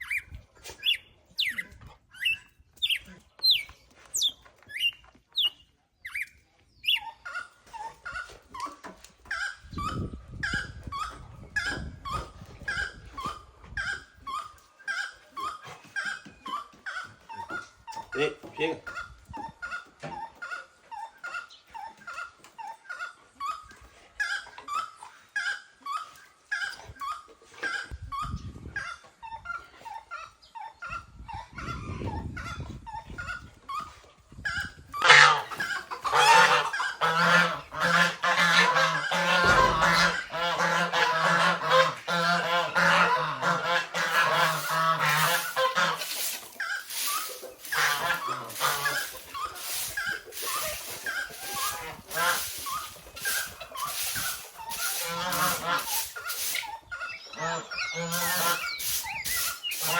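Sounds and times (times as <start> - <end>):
farmyard birds honking: 0.0 - 23.6, 33.8 - 59.9.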